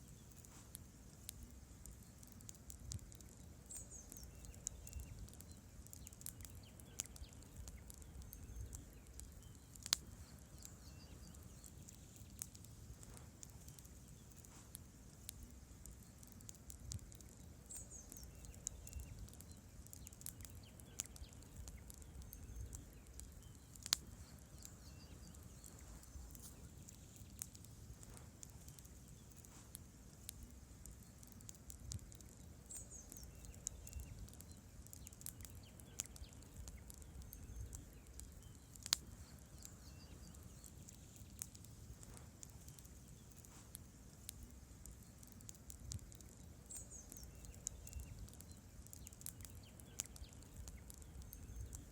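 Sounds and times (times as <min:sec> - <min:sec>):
campfire crackling: 0:00.0 - 0:51.9
low rumble of flames: 0:00.0 - 0:51.9.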